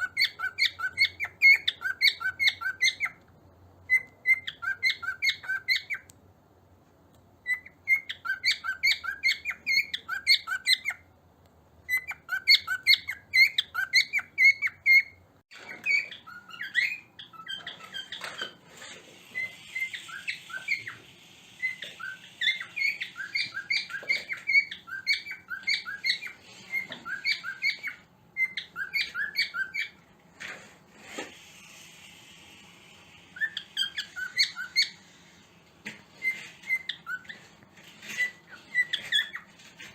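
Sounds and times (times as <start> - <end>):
cockatiels chirping: 0.0 - 6.2, 7.4 - 11.1, 11.8 - 31.2, 33.3 - 39.9.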